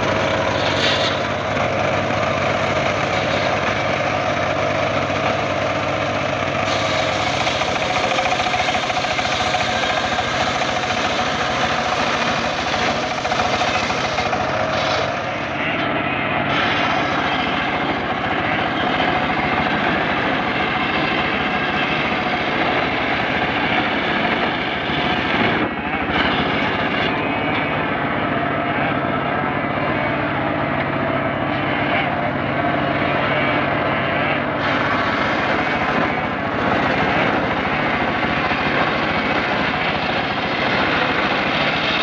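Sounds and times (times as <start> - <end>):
circular saw blade cutting log: 0.0 - 27.8, 33.2 - 42.0
engine droning: 0.0 - 42.0.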